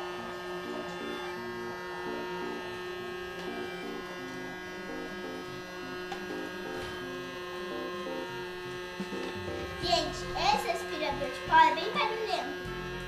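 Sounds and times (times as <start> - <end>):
electronic tune: 0.0 - 13.0
toy vacuum motor buzzing: 0.0 - 13.0.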